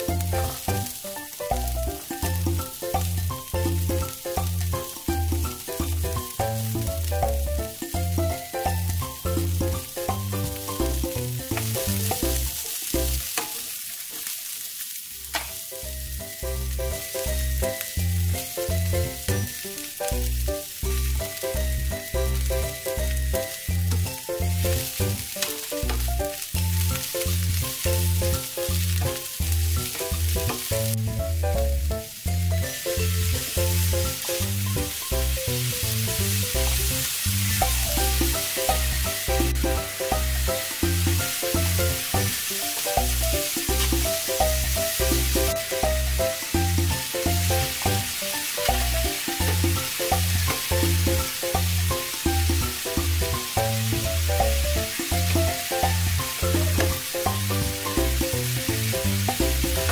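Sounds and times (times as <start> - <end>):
background music with beat: 0.0 - 13.4, 15.6 - 59.9
vegetables sizzling in oil: 0.0 - 59.9.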